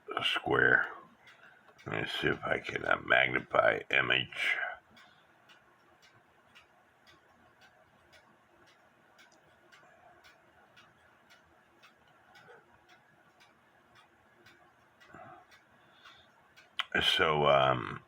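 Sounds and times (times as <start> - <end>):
mechanical clock ticking: 0.0 - 18.0.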